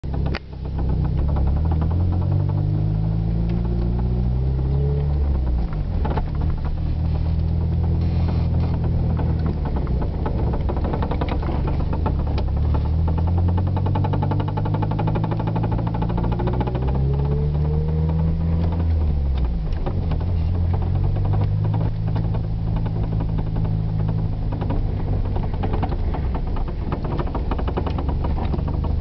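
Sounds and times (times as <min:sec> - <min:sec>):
car engine driving: 0:00.0 - 0:29.0
knocking from car front: 0:00.0 - 0:29.0.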